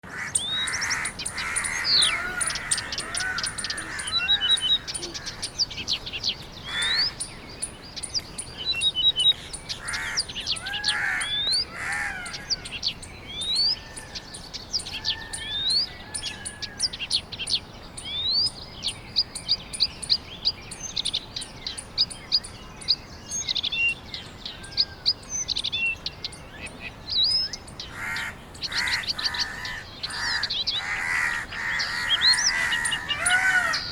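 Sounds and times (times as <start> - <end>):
lower arched bird calls: 0.0 - 33.9
birds chirping and whistling: 0.3 - 33.9.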